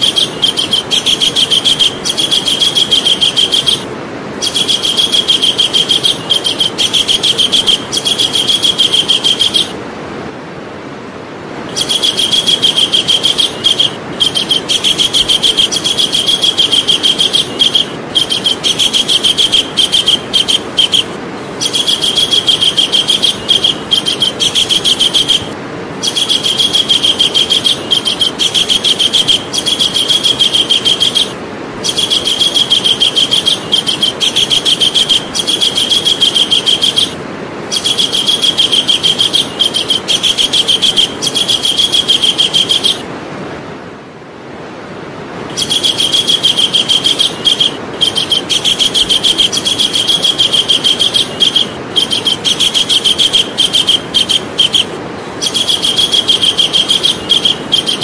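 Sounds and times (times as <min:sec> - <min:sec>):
kingfisher rattling call: 0:00.0 - 0:09.8, 0:11.7 - 0:43.1, 0:45.5 - 0:58.0
background hiss: 0:00.0 - 0:58.0.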